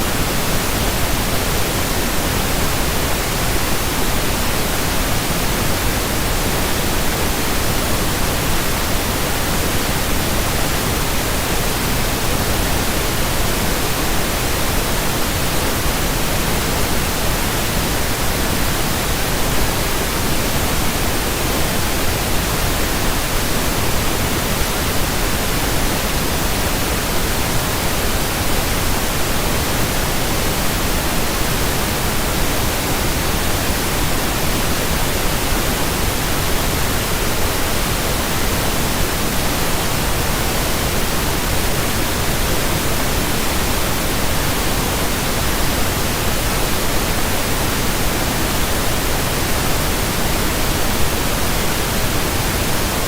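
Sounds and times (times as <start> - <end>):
steady pink noise hiss: 0.0 - 53.0.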